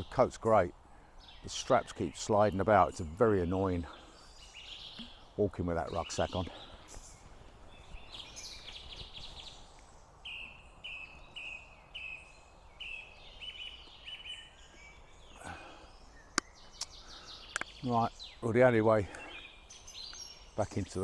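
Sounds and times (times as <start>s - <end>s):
faint outdoor background noise: 0.0s - 21.0s
small songbirds singing: 0.0s - 21.0s.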